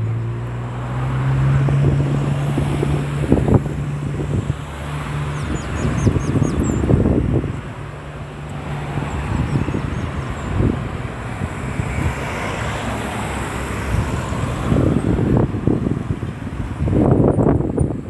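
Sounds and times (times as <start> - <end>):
vehicle passing: 0.0 - 17.4
road traffic: 0.0 - 18.0
wind buffeting microphone: 0.0 - 18.0.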